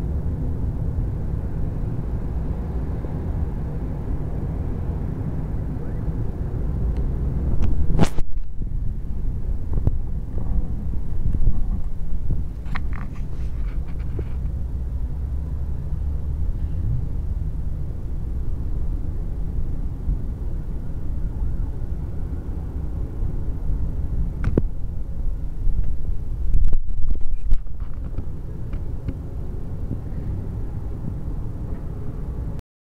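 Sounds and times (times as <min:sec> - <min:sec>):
distant traffic rumble: 0:00.0 - 0:32.6.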